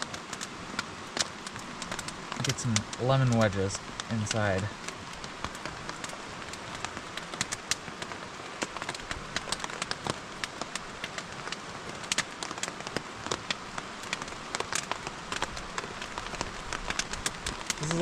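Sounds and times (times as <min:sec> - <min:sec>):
rain hissing on a tarp: 0:00.0 - 0:18.0
raindrop taps: 0:00.0 - 0:18.0.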